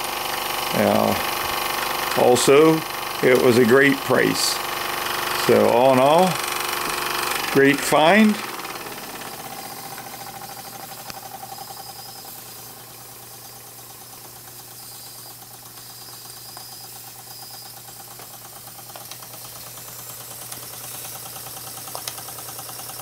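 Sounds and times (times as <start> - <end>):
toy steam engine piston beating: 0.0 - 12.7, 13.3 - 23.0.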